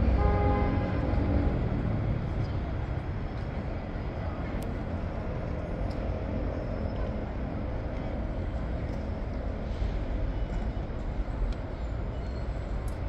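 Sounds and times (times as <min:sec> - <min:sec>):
low rumble of city traffic: 0:00.0 - 0:13.0.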